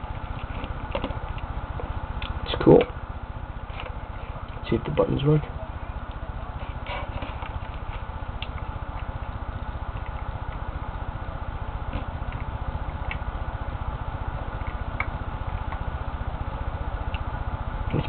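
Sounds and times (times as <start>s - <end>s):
low background buzz: 0.0s - 18.0s.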